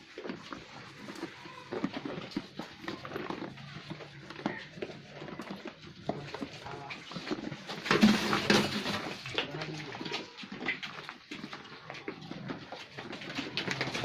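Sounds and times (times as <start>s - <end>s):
faint animal sounds: 0.0s - 7.8s, 9.3s - 14.0s.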